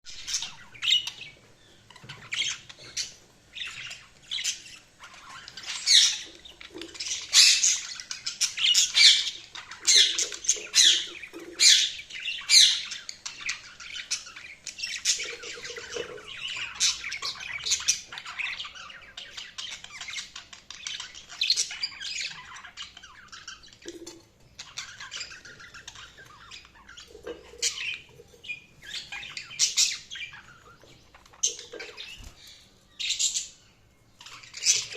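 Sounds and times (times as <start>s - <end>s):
budgerigars chirping and squawking: 0.1s - 34.9s.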